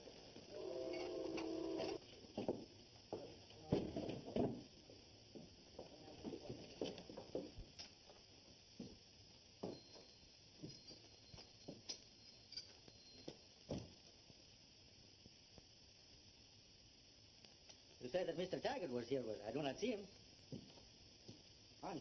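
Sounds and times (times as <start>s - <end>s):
old film soundtrack hiss: 0.0s - 22.0s.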